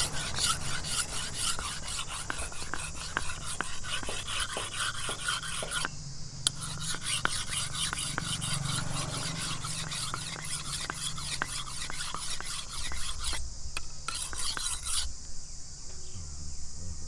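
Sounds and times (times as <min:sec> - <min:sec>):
knife scraping fruit: 0:00.0 - 0:05.9, 0:06.5 - 0:13.4, 0:14.1 - 0:15.1.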